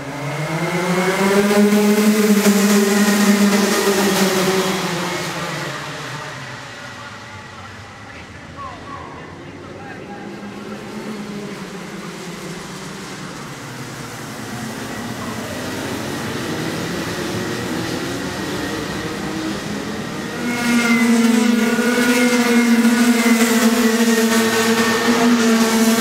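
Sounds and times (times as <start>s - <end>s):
kart engines at high revs: 0.0s - 8.0s, 9.6s - 26.0s.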